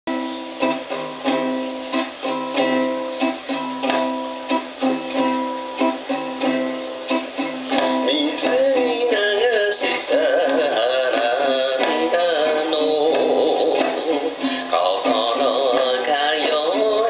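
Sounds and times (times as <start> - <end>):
strummed ukulele chords: 0.1 - 17.0.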